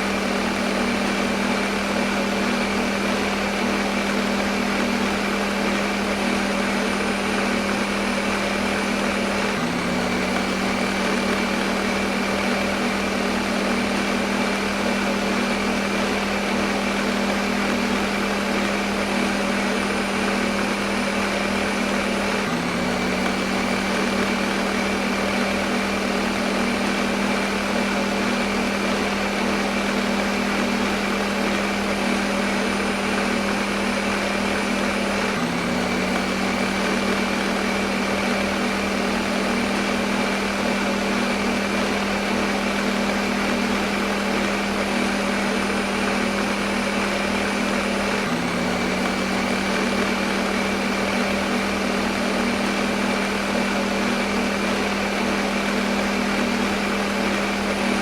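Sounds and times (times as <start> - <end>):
blender motor whirring: 0.0 - 58.0.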